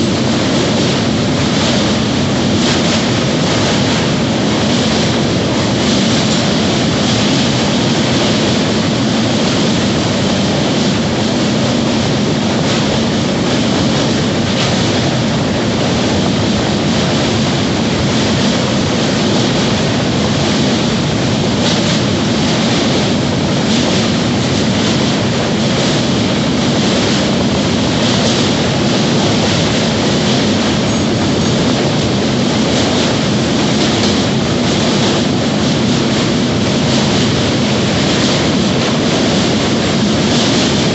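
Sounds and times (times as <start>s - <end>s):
passenger train running: 0.0s - 40.9s.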